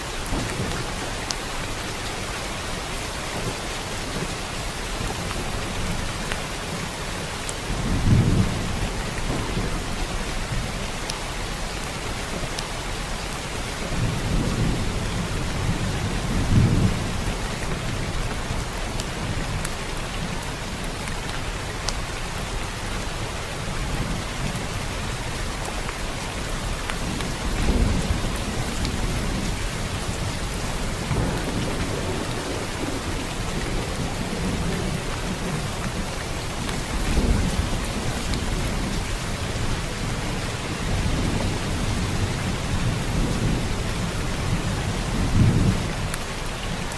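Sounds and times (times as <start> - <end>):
thunder rumbles: 0.0 - 11.1, 13.7 - 21.0, 27.0 - 46.9
heavy rain hiss: 0.0 - 46.9.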